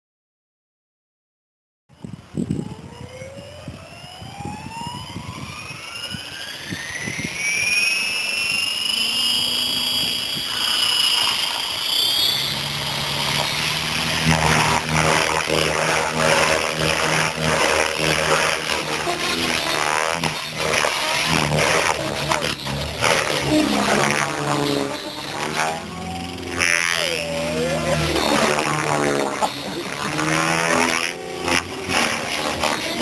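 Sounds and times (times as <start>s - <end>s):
helicopter rotor flutter: 2.0s - 33.0s
motor and gear whine: 2.0s - 33.0s.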